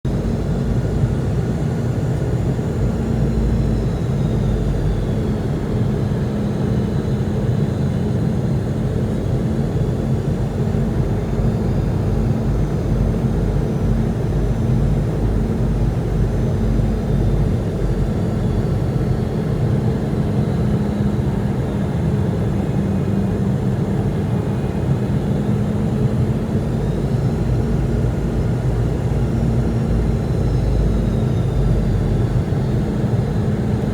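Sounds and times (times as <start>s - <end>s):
jet engines rumbling and whining: 0.1s - 33.9s.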